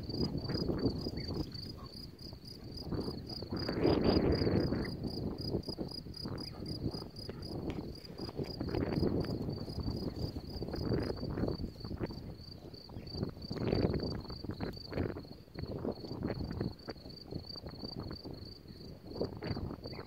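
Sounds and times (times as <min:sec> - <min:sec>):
insect chirping: 0:00.0 - 0:20.0
wind rumbling on microphone: 0:00.0 - 0:20.0.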